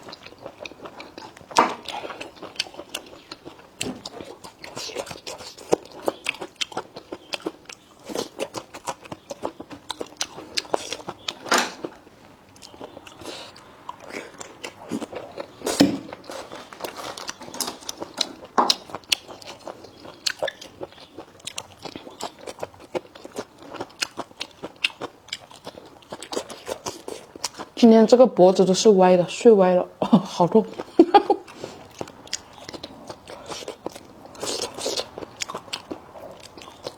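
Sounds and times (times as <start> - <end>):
person chewing food: 0.0 - 27.8, 30.7 - 36.9.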